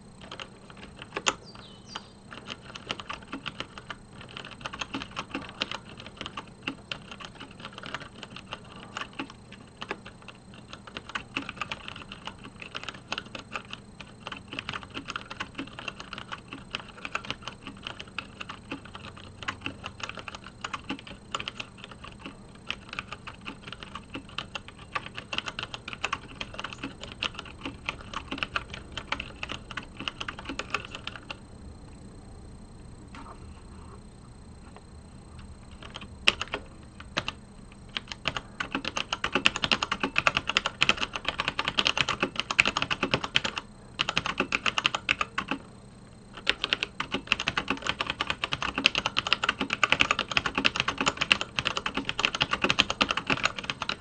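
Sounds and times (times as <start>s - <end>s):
keyboard typing clacks: 0.2s - 31.4s, 35.7s - 45.6s, 46.4s - 54.0s.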